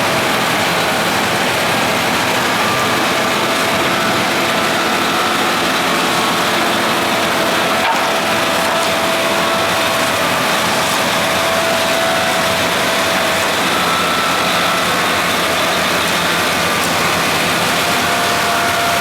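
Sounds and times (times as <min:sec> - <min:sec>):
snow blower running: 0:00.0 - 0:19.0.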